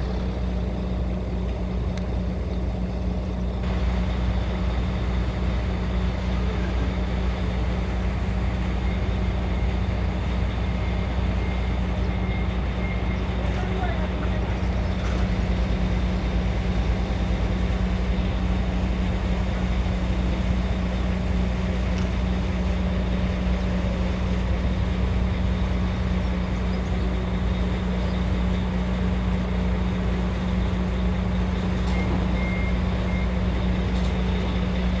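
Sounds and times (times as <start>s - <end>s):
truck engine droning: 0.0s - 35.0s.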